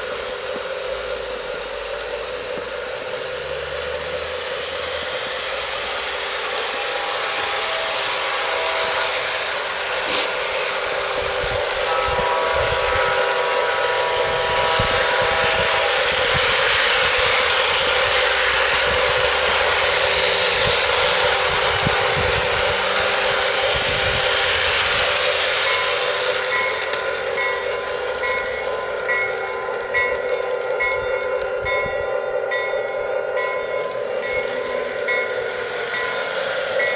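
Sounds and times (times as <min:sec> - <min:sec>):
running hiss and hum: 0:00.0 - 0:30.5.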